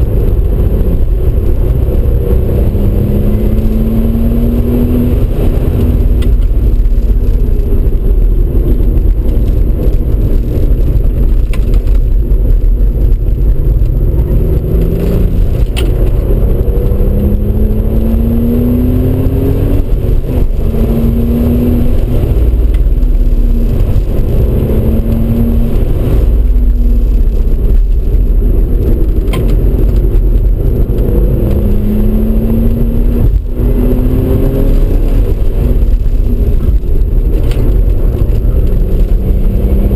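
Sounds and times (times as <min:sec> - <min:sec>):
car engine accelerating: 0:00.0 - 0:39.9
road and wind rumble: 0:00.0 - 0:39.9.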